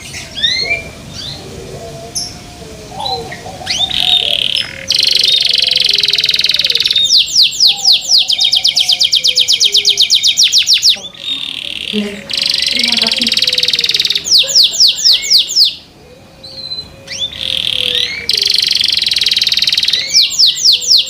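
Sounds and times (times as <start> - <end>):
canary singing: 0.0 - 21.0.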